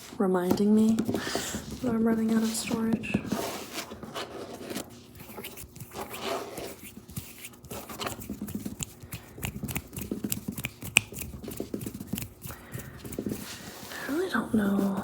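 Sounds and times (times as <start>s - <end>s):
soft rustling: 0.0s - 9.2s, 11.4s - 15.0s.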